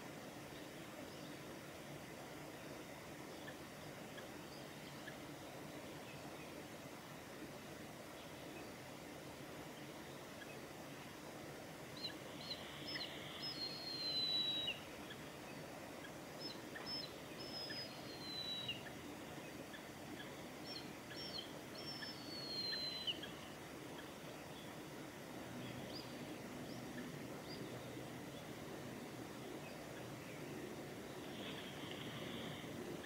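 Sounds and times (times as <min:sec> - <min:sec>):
background hiss: 0:00.0 - 0:33.0.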